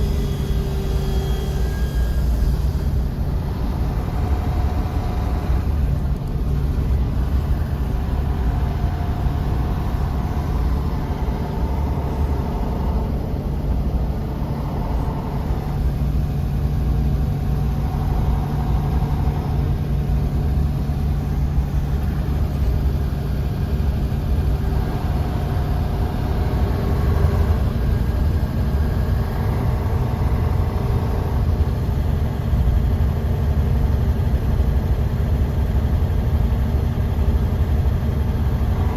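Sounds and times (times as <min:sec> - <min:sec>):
faint whining tones: 0:00.0 - 0:34.1, 0:35.7 - 0:38.9
bus engine and road rumble: 0:00.0 - 0:38.9.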